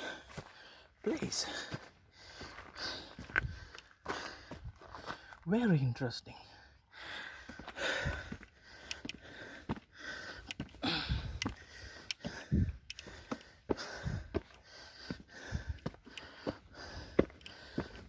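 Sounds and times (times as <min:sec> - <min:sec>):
person breathing hard: 0:00.0 - 0:05.4, 0:06.4 - 0:18.0.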